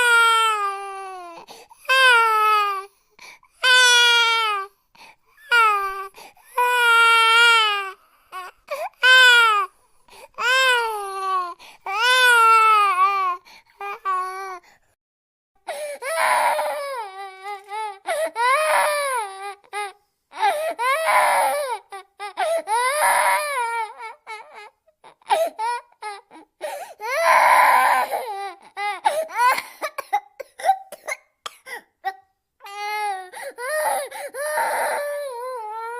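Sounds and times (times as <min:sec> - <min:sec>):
infant crying: 0:00.0 - 0:04.8, 0:05.4 - 0:14.6, 0:15.7 - 0:35.9.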